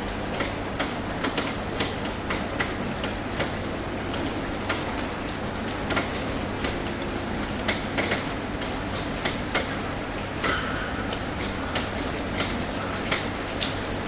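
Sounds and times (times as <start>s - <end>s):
drips striking roof: 0.0s - 14.0s
rain patter on roof: 0.0s - 14.0s.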